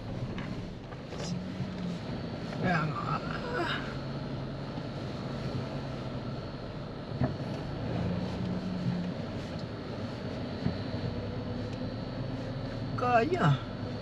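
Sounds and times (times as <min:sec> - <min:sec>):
car engine and tyres droning: 0:00.0 - 0:14.0.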